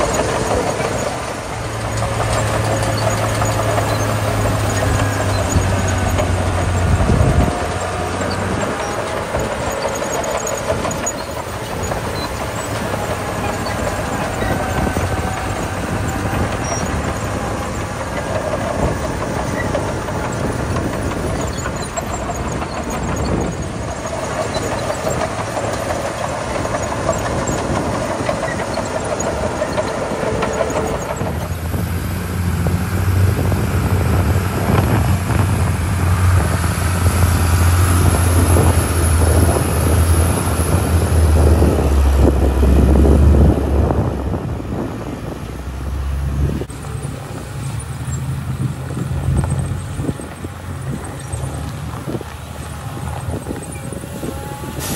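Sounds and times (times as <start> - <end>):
bulldozer diesel engine under load: 0.0 - 54.9
dump truck diesel drone: 0.0 - 54.9.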